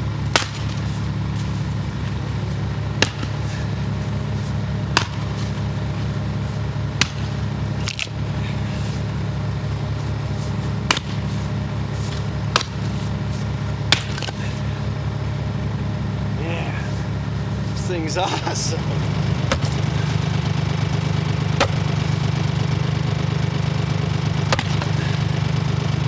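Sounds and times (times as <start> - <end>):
axe splitting firewood: 0.0 - 14.9, 16.8 - 23.1, 23.8 - 25.8
low engine-like hum: 0.0 - 26.0.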